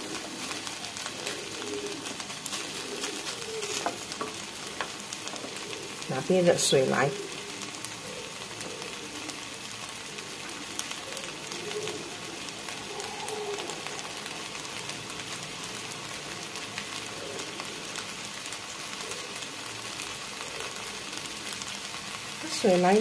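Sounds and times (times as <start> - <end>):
rice sizzling in a pan: 0.0 - 23.0.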